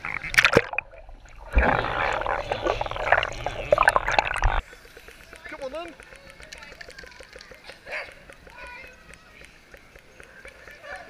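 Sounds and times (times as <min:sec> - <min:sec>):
water churning: 0:00.0 - 0:11.0
water splashing: 0:00.0 - 0:11.0.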